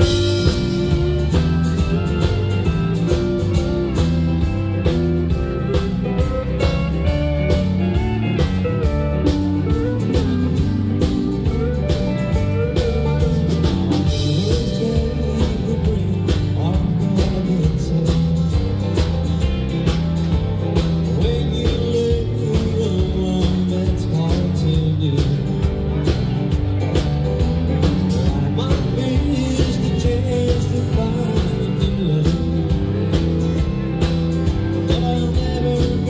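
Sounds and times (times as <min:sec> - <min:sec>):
live country band playing: 0:00.0 - 0:36.0.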